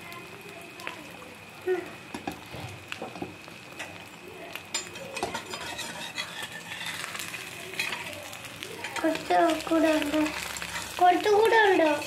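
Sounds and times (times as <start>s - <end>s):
omelette sizzling in oil: 0.0s - 12.0s.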